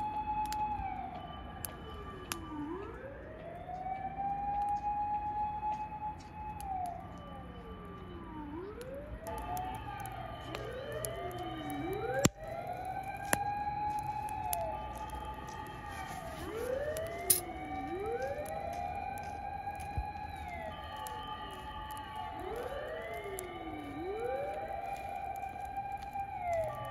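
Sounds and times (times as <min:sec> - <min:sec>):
sirens wailing: 0:00.0 - 0:26.9.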